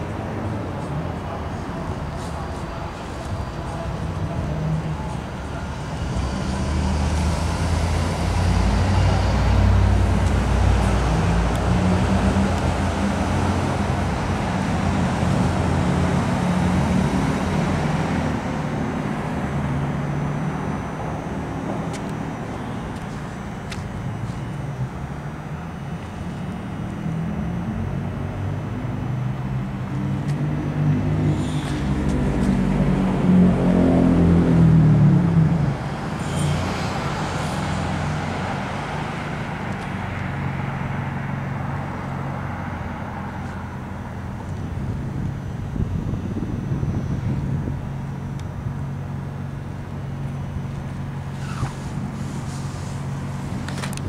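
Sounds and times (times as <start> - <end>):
road vehicle rumble: 0.0 - 54.0.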